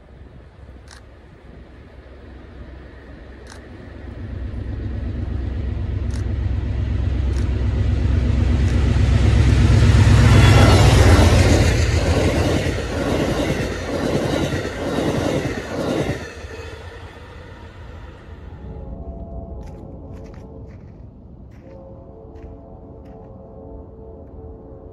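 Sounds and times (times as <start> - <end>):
diesel locomotive rumble: 0.0 - 21.5.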